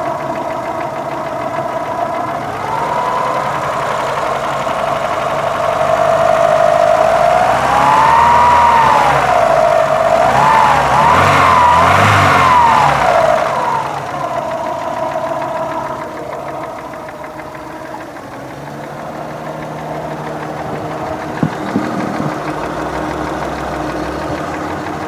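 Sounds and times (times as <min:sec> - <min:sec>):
car engine idling: 0:00.0 - 0:25.0
car engine revving: 0:00.0 - 0:25.0.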